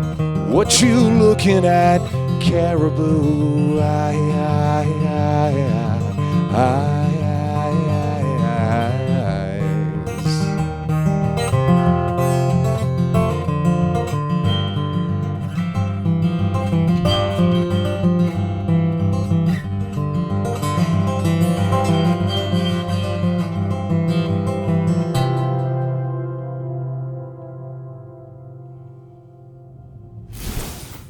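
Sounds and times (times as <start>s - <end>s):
acoustic guitar strumming: 0.0s - 30.3s.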